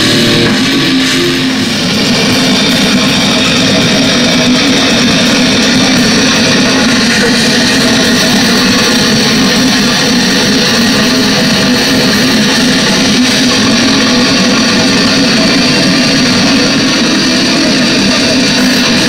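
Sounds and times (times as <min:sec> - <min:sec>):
live metal band playing: 0:00.0 - 0:19.0.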